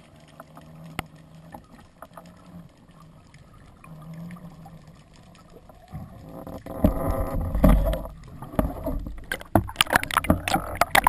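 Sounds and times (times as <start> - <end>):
underwater rushing and bubbling: 0.0 - 11.0.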